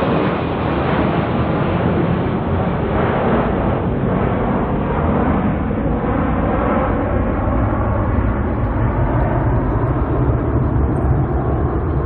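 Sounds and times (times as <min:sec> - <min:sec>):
jet engines roaring at takeoff: 0:00.0 - 0:12.0.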